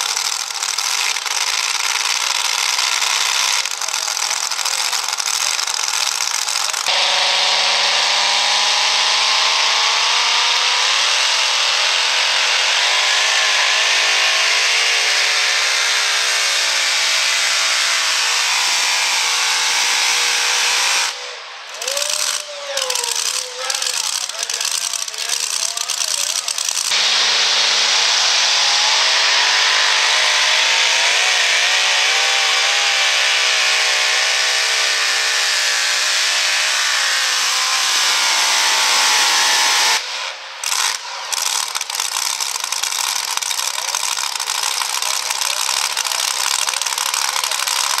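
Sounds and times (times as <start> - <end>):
rough engine noise: 0.0 - 48.0
truck engine at full throttle: 0.0 - 48.0.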